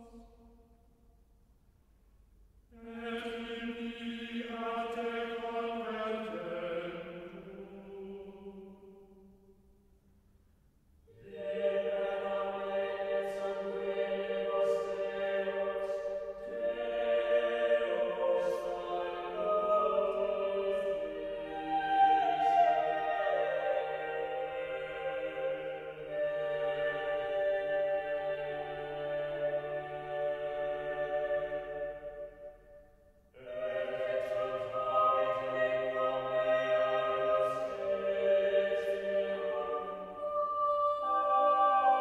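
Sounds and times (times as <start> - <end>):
choir singing held chords: 2.8 - 9.2, 11.1 - 32.8, 33.4 - 42.0.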